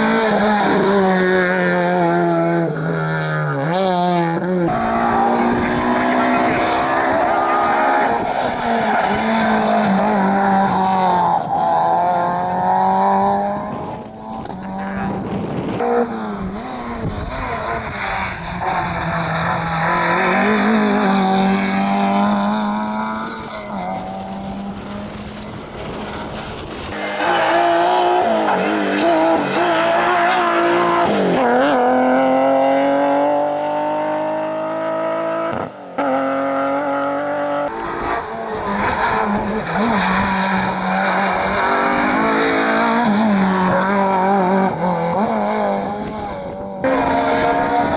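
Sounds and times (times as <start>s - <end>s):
rally car engines at full throttle: 0.0s - 47.9s.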